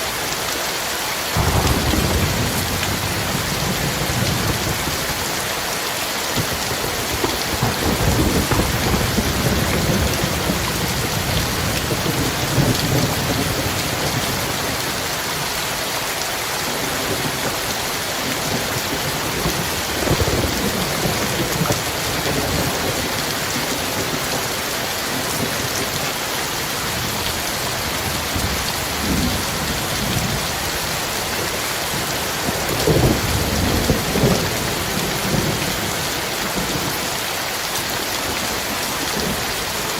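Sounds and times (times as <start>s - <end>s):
heavy rain hissing: 0.0s - 39.9s
thunder rumbling: 1.4s - 5.6s, 6.4s - 15.5s, 16.7s - 37.2s.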